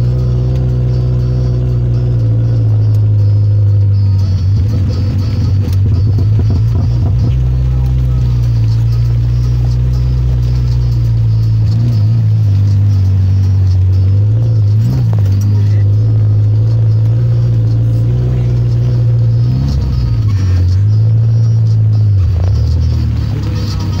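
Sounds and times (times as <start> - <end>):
vehicle engine running under load: 0.0 - 24.0.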